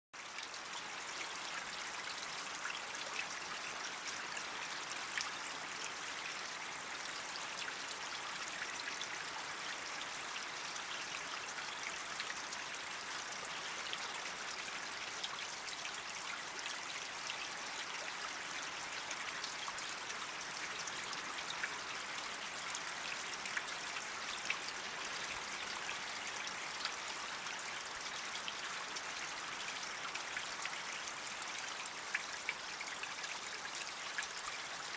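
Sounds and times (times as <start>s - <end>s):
creek water flowing: 0.2s - 34.9s.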